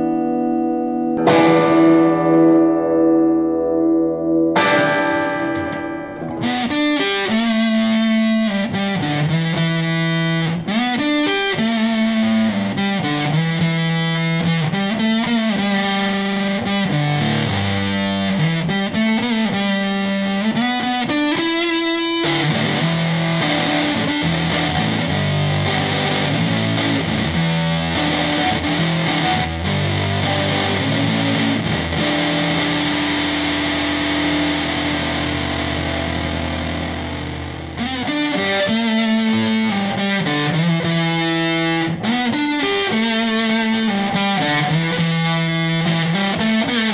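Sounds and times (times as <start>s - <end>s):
fuzz electric guitar: 0.0s - 46.9s.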